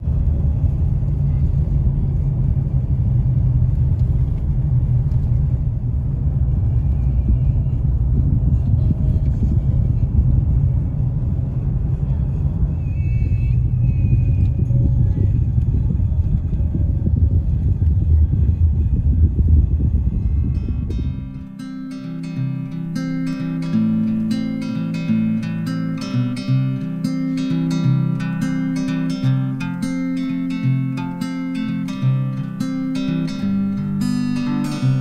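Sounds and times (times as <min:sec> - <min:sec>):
vehicle rumbling: 0:00.0 - 0:35.0.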